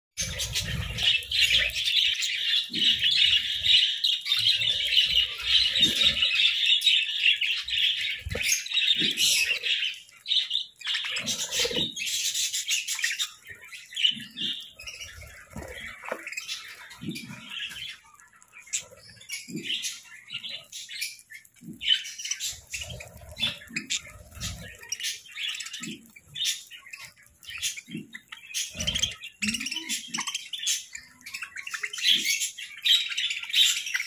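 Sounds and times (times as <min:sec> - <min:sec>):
budgerigars chattering: 0:00.2 - 0:34.0.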